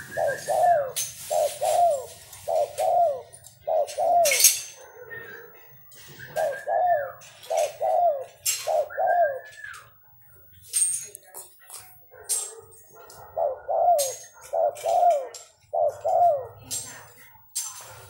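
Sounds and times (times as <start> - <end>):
dove cooing: 0.0 - 10.1, 12.9 - 17.3.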